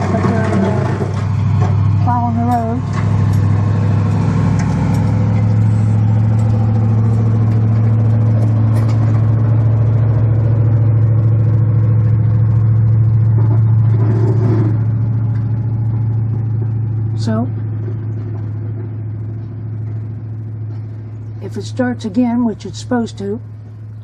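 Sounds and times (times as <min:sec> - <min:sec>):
truck engine humming: 0:00.0 - 0:24.0.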